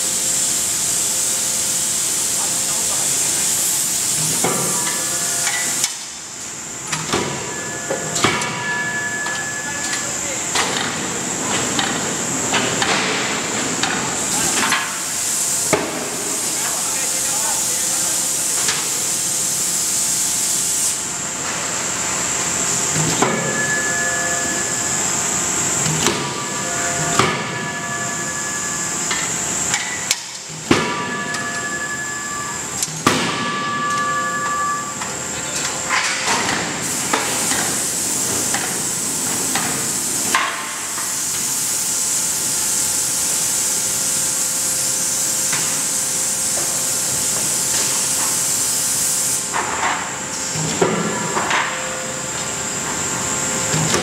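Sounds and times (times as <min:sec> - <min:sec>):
machinery hissing: 0:00.0 - 0:51.3.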